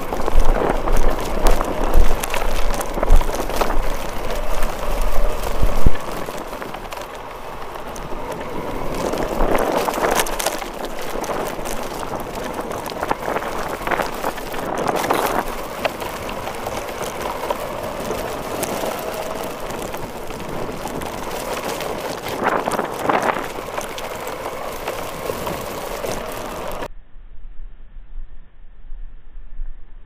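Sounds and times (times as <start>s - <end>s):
rc car motor rattling: 0.0s - 26.9s.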